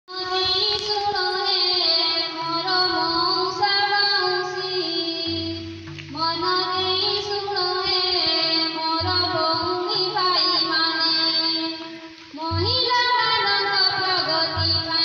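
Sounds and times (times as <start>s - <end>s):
woman singing: 0.1s - 15.0s
instrumental backing with bass line: 2.6s - 15.0s.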